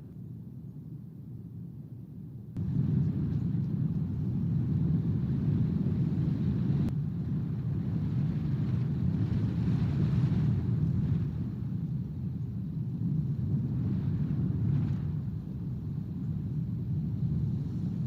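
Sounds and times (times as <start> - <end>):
wind buffeting microphone: 2.6 - 18.0.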